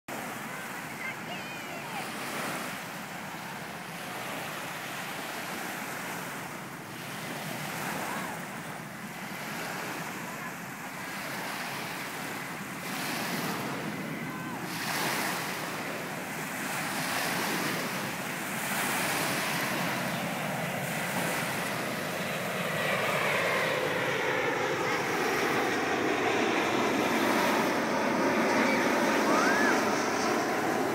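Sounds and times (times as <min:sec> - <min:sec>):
jet engine noise: 0:00.1 - 0:30.9.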